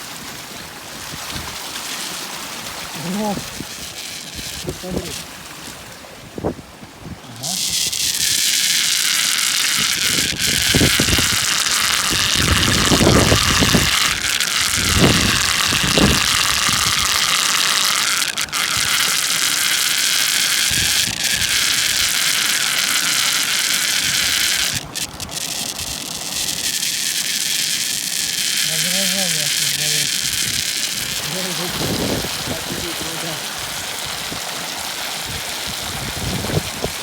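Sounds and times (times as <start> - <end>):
low water gurgling: 0.0 - 37.0
whirlpool rushing hiss: 0.0 - 37.0.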